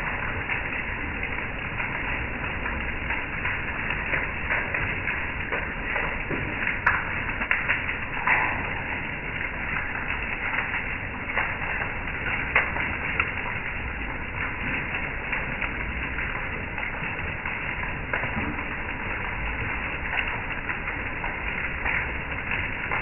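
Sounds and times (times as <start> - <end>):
hailstones clicking on wood: 0.0 - 23.0
heavy rain hissing: 0.0 - 23.0.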